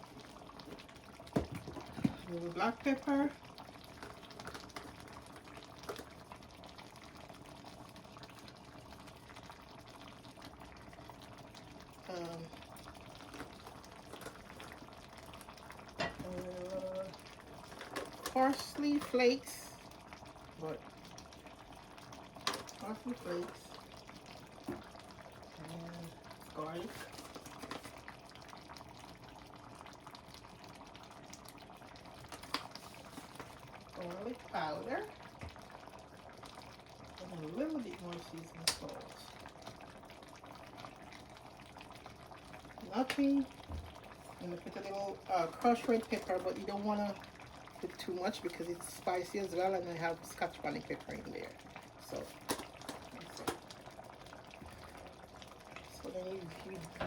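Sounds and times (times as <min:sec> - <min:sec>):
pot simmering with bubbling: 0:00.0 - 0:57.0.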